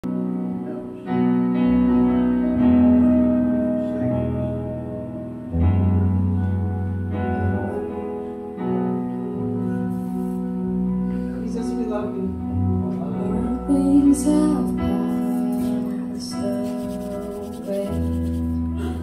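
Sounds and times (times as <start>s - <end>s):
guitar: 0.0s - 19.0s
keyboard chords: 0.0s - 19.0s.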